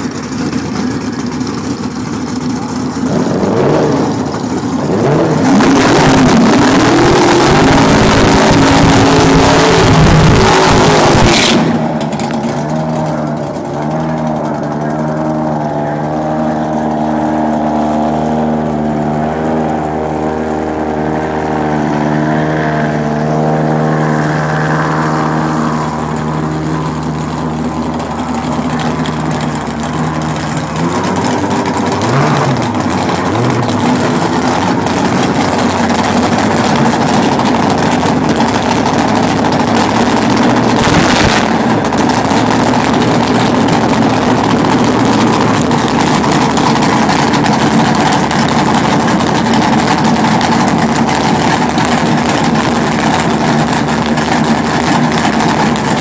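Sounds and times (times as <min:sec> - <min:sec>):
racing car engine running: 0:00.0 - 0:56.0.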